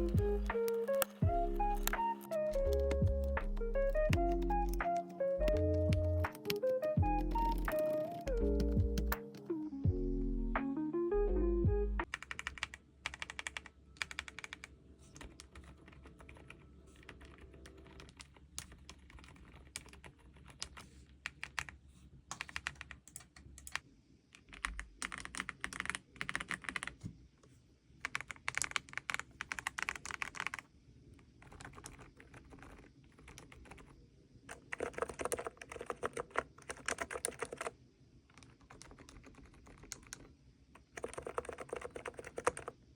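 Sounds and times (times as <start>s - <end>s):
typing on mechanical keyboard: 0.0s - 9.5s, 12.0s - 23.8s, 24.4s - 27.0s, 28.0s - 30.7s, 31.4s - 37.7s, 38.3s - 42.8s.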